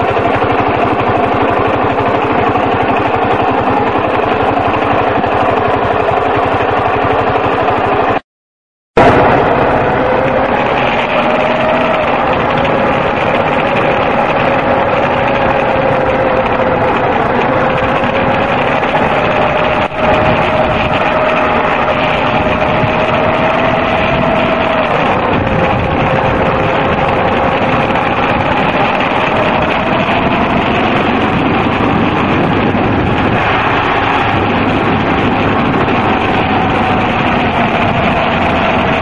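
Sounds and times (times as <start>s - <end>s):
motorcycle engine running: 0.0s - 8.2s, 9.0s - 39.0s.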